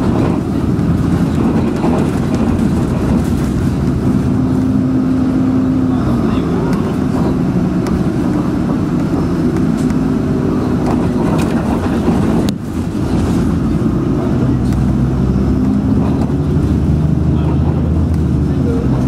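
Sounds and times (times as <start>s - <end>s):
bus engine and road drone: 0.0s - 19.0s.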